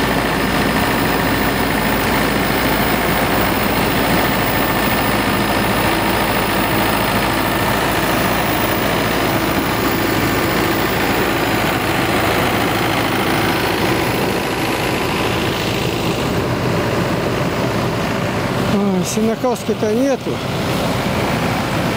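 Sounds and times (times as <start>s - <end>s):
mowing machine engine running: 0.0s - 21.9s.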